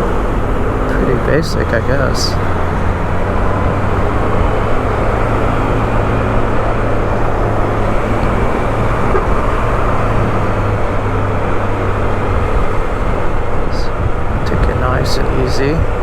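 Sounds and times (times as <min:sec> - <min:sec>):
motorcycle engine running: 0:00.0 - 0:16.0
road noise: 0:00.0 - 0:16.0
wind rushing: 0:00.0 - 0:16.0.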